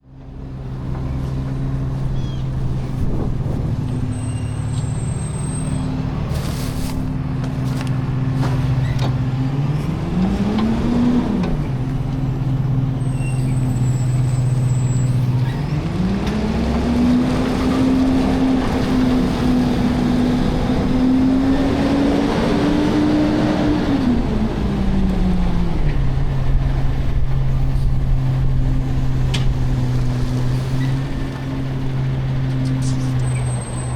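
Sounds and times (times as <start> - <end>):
garbage truck engine revving: 0.3 - 33.9.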